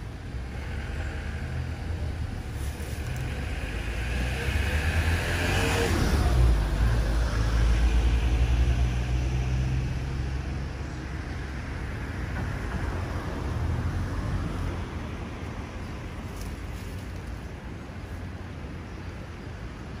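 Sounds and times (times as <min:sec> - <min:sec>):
road traffic rumble: 0:00.0 - 0:20.0
car passing by: 0:00.3 - 0:17.4.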